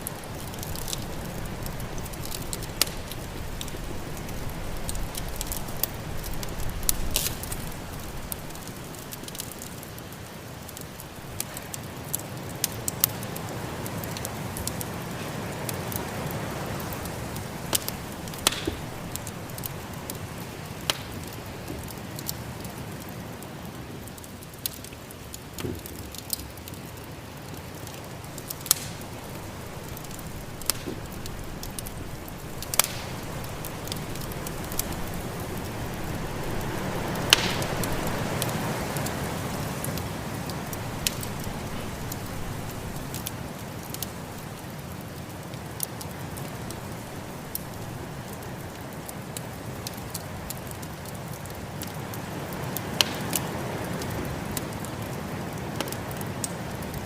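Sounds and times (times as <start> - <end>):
low hiss and rumble: 0.0 - 57.0
wood fire crackling and popping: 0.0 - 57.0.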